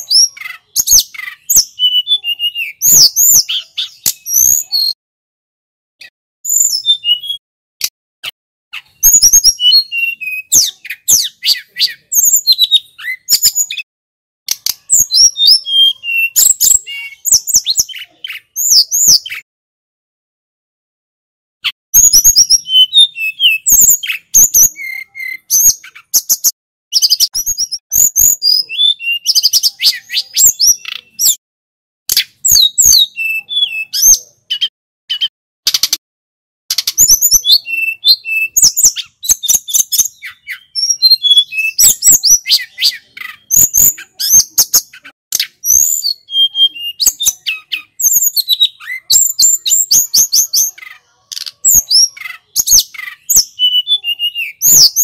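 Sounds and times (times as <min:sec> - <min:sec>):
bird singing chirps and trills: 0:00.0 - 0:05.0, 0:06.0 - 0:07.4, 0:08.2 - 0:13.9, 0:14.5 - 0:19.5, 0:21.7 - 0:31.4, 0:32.1 - 0:36.0, 0:36.7 - 0:55.0.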